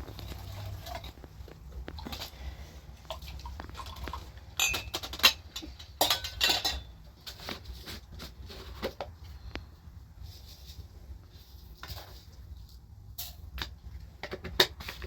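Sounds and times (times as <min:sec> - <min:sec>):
objects clinking and scraping: 0:00.0 - 0:09.3, 0:10.3 - 0:15.0.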